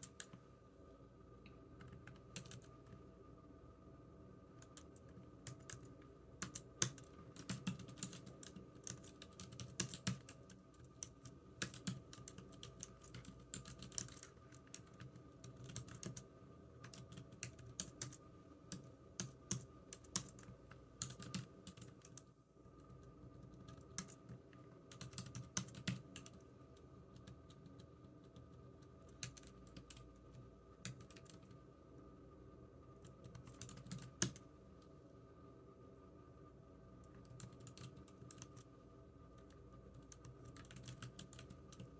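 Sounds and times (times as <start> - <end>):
computer keyboard typing: 0.0 - 0.4, 1.7 - 3.0, 4.6 - 31.6, 33.0 - 34.4, 37.0 - 38.7, 39.4 - 41.9.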